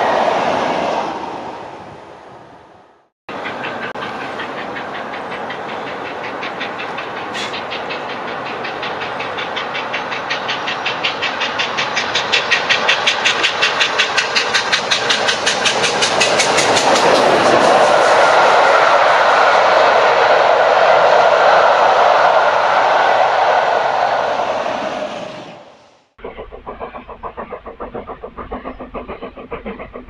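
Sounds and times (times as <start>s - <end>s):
steam locomotive chuffing: 3.3s - 25.6s, 26.2s - 30.0s.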